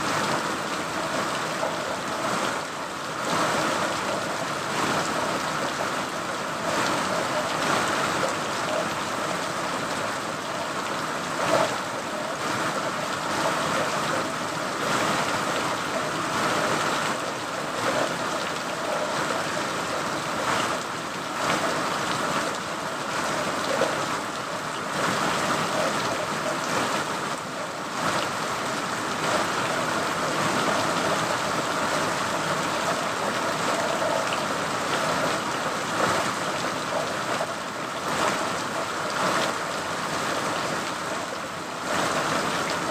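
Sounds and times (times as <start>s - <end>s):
steady rain hiss: 0.0s - 42.9s.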